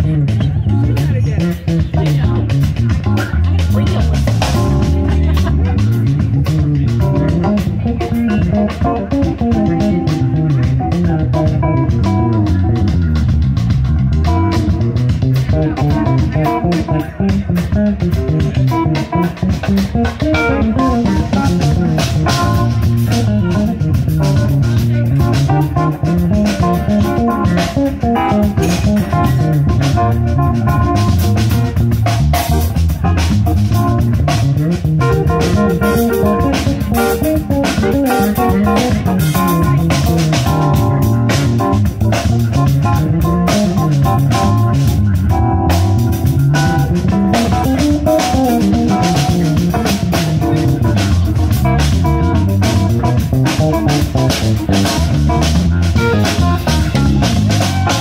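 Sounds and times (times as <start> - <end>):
electric bass line: 0.0 - 58.0
jazz-funk band playing: 0.0 - 58.0.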